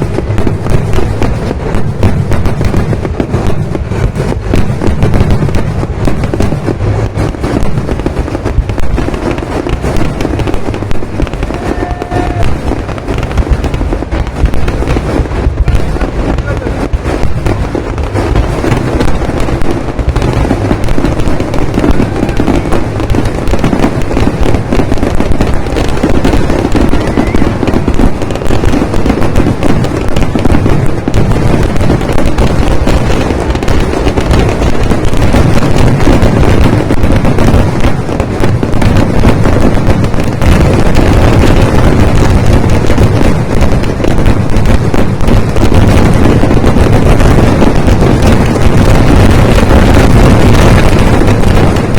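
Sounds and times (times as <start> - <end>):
firecracker and shell bangs: 0.0 - 51.9.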